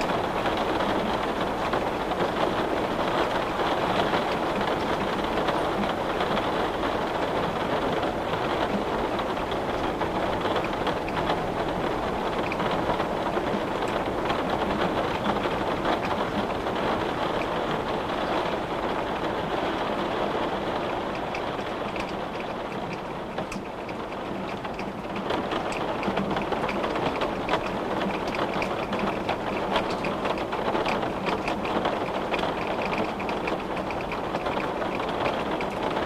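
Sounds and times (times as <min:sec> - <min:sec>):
rain on a window: 0:00.0 - 0:36.0.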